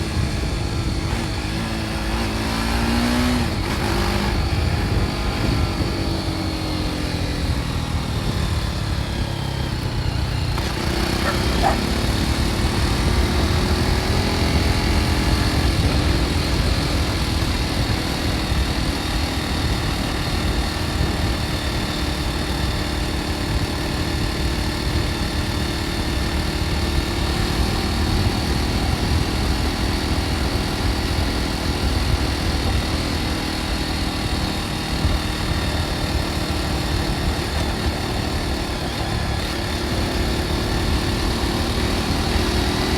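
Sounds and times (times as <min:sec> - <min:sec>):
motorcycle engine: 0:00.0 - 0:42.9
wind and road rumble: 0:00.0 - 0:42.9.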